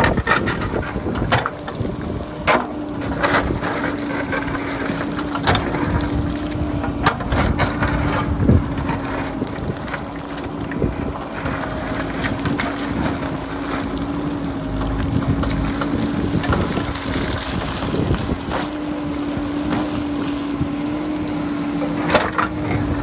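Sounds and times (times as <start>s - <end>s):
diesel engine running: 0.0s - 23.0s
wind buffeting microphone: 0.0s - 23.0s.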